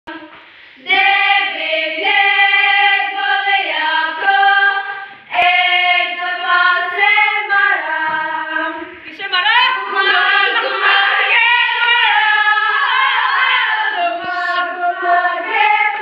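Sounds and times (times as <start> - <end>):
girls singing together: 0.1 - 16.0.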